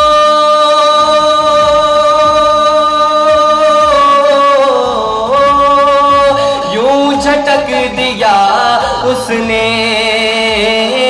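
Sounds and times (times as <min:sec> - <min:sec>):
boy singing long note: 0:00.0 - 0:09.8.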